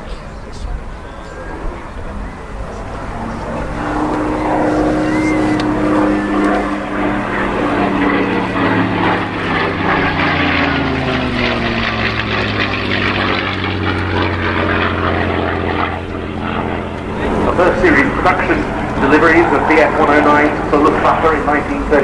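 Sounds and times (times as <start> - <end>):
propeller plane engine: 0.0 - 22.0.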